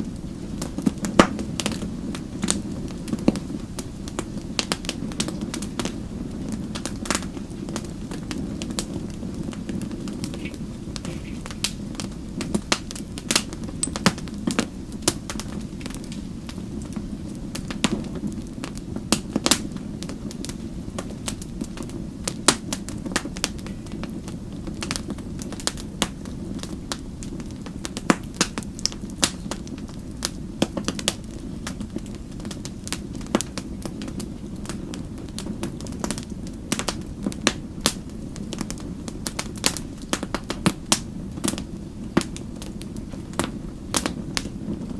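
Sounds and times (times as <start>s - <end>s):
fire crackling and popping: 0.0s - 44.9s
wood fire rumbling: 0.0s - 44.9s.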